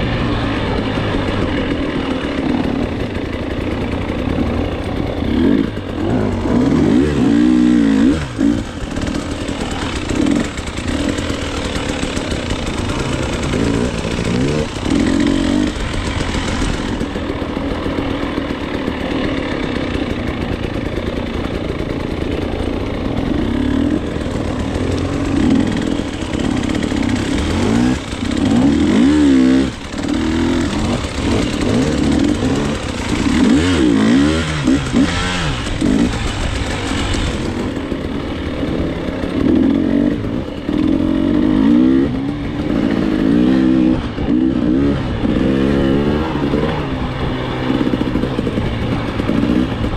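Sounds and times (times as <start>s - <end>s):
clatter: 0.0s - 49.9s
dirt bike engine revving: 0.0s - 49.9s.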